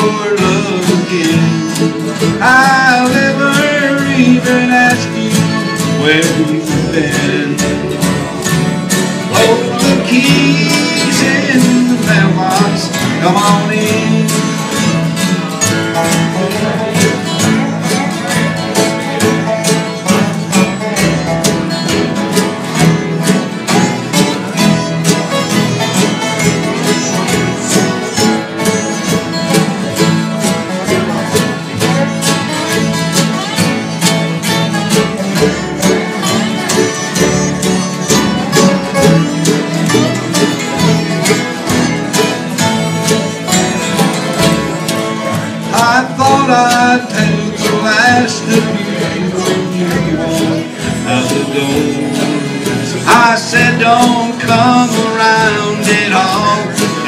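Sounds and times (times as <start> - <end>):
bluegrass band instrumental: 0.0 - 57.0.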